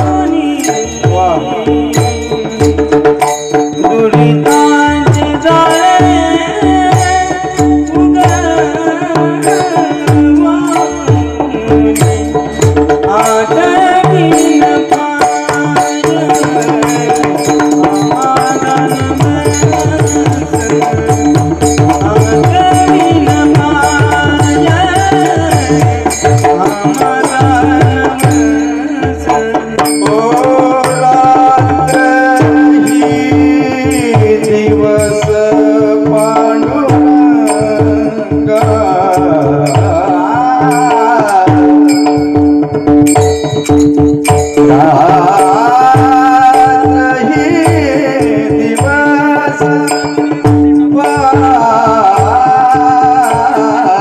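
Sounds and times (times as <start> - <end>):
devotional music: 0.0 - 54.0
fast tabla playing: 0.0 - 54.0.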